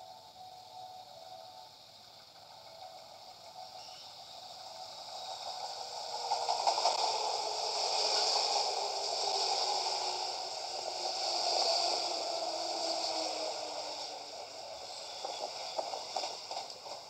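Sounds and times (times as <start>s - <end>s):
faint train whine: 0.0s - 17.0s
train wheels rumbling on rails: 0.0s - 17.0s.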